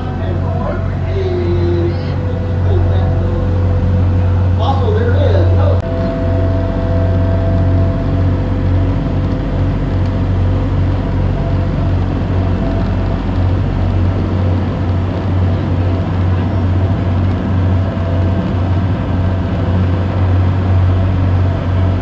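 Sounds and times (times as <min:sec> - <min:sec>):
boat engine droning: 0:00.0 - 0:22.0
water rushing in wake: 0:00.0 - 0:22.0.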